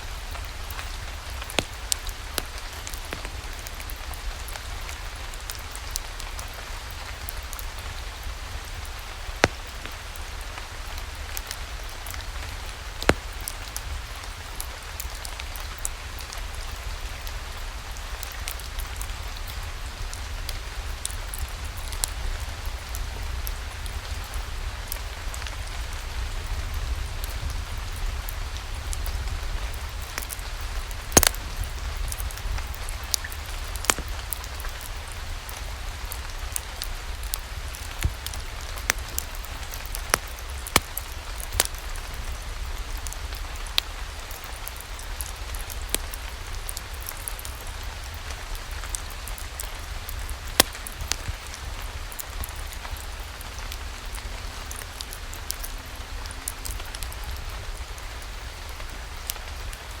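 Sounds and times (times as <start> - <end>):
wood fire crackling: 0.0 - 26.4, 28.0 - 60.0
steady rain hiss: 0.0 - 60.0.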